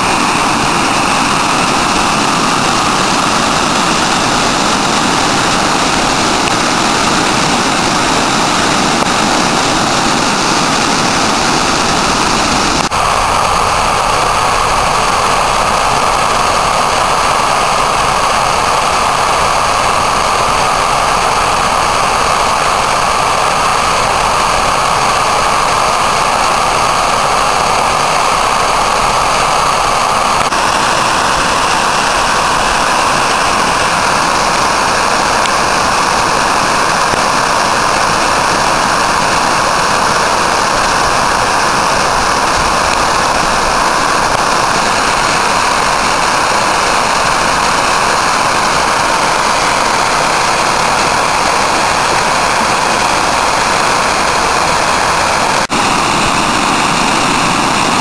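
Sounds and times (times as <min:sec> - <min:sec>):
water rushing down a spillway: 0:00.0 - 0:58.0.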